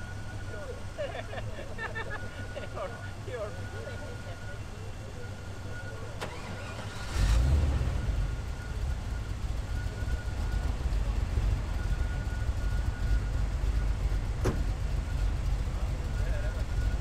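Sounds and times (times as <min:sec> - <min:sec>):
car engine starting and idling: 0:00.0 - 0:17.0.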